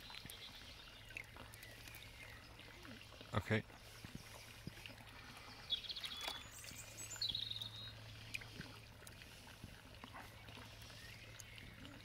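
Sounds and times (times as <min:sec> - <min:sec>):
small bird chirping trills: 0:00.0 - 0:08.3, 0:10.2 - 0:12.0
water splashing: 0:00.0 - 0:12.0.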